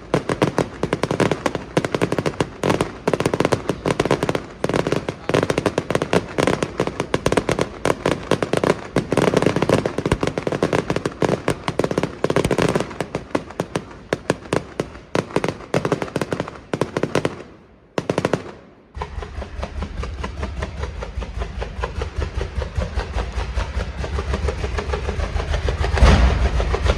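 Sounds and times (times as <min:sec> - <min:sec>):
firecracker bangs crackling: 0:00.0 - 0:26.9.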